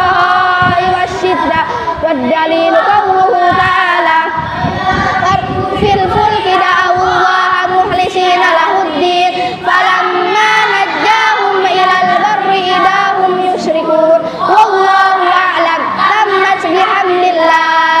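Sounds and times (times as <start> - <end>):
children chanting in unison: 0.0 - 18.0.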